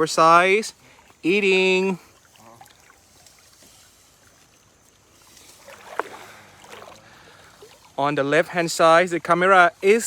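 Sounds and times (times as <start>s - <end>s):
river water running: 0.0s - 10.0s.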